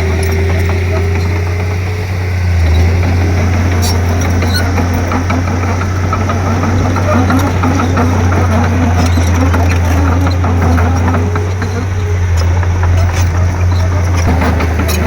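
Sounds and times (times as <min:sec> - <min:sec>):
bulldozer diesel engine running: 0:00.0 - 0:15.0
light rattles and ticks: 0:00.0 - 0:15.0.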